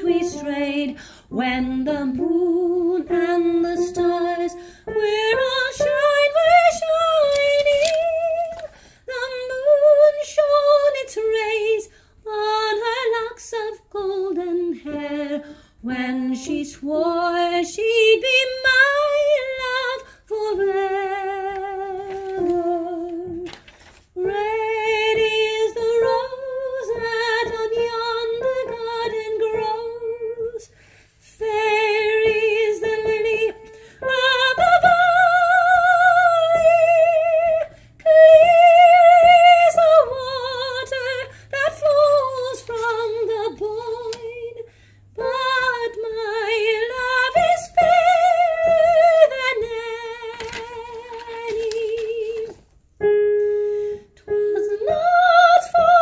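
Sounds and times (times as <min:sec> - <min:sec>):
woman singing soprano: 0:00.0 - 0:23.6, 0:24.2 - 0:53.2, 0:54.2 - 0:56.0.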